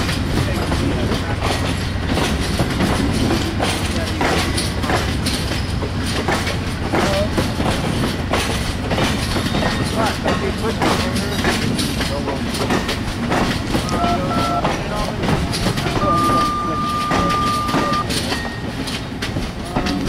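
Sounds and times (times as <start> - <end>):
train rumbling past: 0.0 - 20.0
wheels clicking over rail joints: 0.0 - 20.0.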